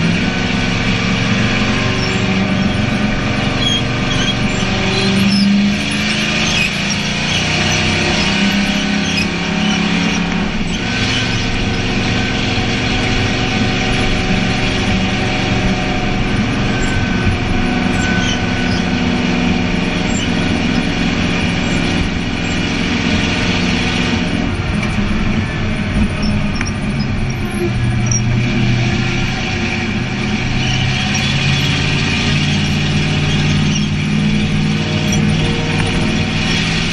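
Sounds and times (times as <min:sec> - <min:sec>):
race car engine running loud: 0:00.0 - 0:36.9.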